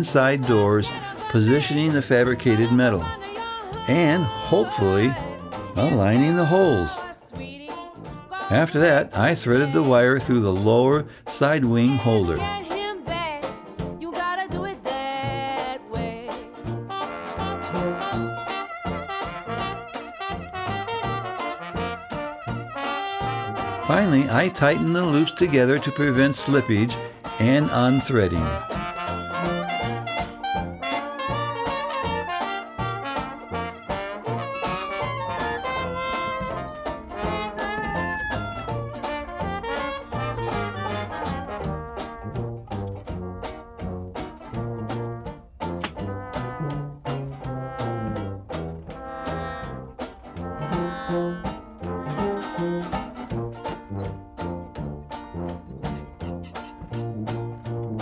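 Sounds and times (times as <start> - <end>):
swing jazz with brass: 0.0 - 7.6, 8.4 - 12.6, 15.1 - 58.0.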